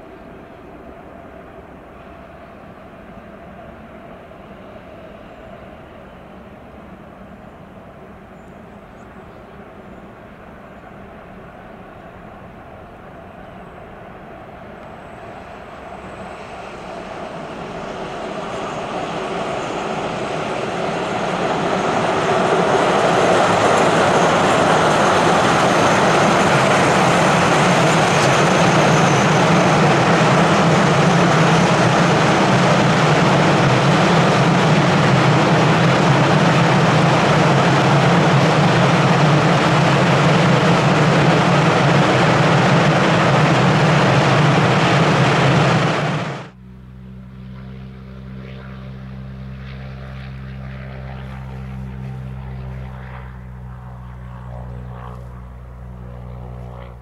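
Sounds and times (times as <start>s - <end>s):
freight train passing: 0.0s - 46.6s
distant train tones: 0.0s - 46.9s.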